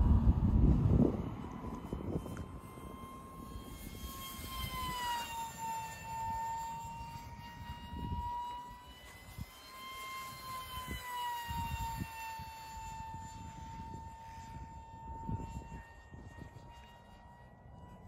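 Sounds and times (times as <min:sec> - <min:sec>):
model jet fan whining: 0:00.0 - 0:18.0.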